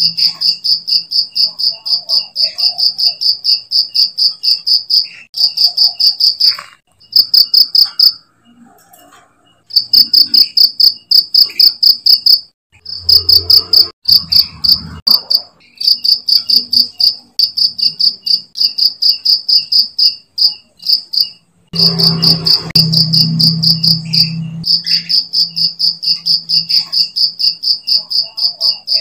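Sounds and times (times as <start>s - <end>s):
cricket chirping: 0.0s - 8.3s, 9.7s - 29.0s.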